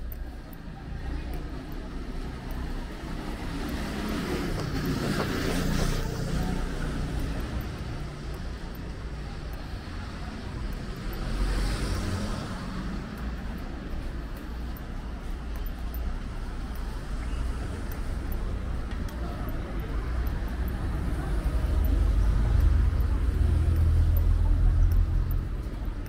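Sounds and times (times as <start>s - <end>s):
traffic rumble: 0.0s - 26.0s
vehicles passing: 0.0s - 26.0s.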